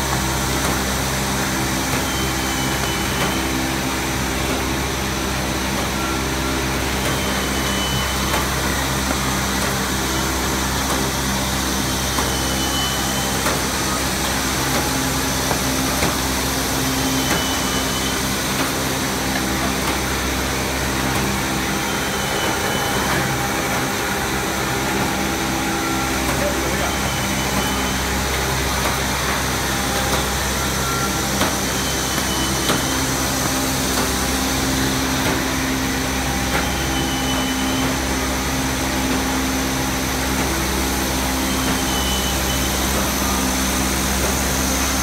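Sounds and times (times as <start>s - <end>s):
low machine hums: 0.0s - 45.0s
production line machine noise: 0.0s - 45.0s.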